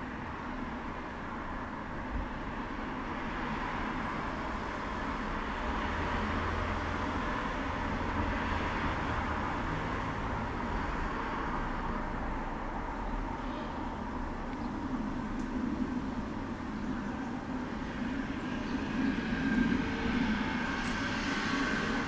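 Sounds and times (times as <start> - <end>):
distant traffic hum: 0.0 - 22.0.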